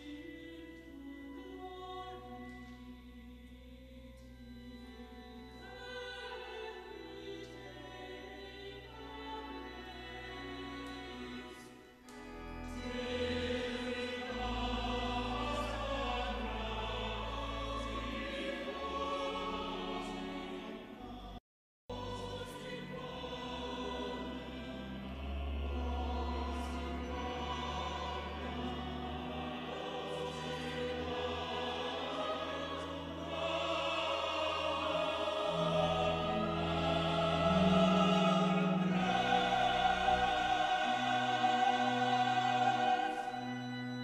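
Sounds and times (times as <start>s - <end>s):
choral singing: 0.0s - 44.0s
organ chords: 0.0s - 44.0s.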